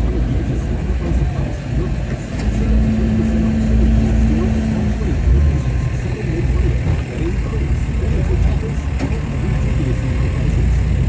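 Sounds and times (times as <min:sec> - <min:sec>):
off-road engines rumbling: 0:00.0 - 0:11.0
steady hum: 0:00.0 - 0:11.0.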